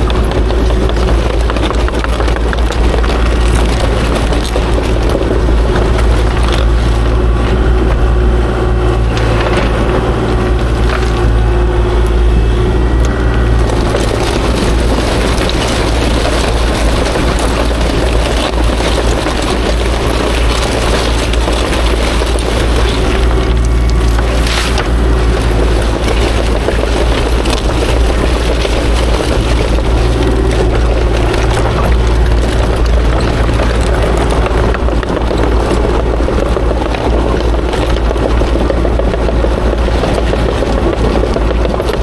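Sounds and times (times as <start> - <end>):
excavator diesel engine running: 0.0 - 42.0
rocks knocking and clattering: 0.0 - 42.0.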